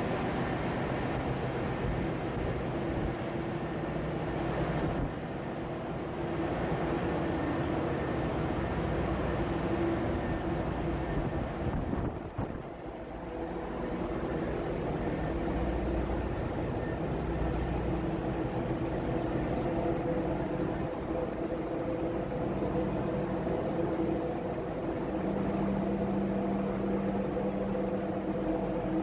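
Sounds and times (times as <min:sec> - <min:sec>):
engine room machinery drone: 0:00.0 - 0:29.0.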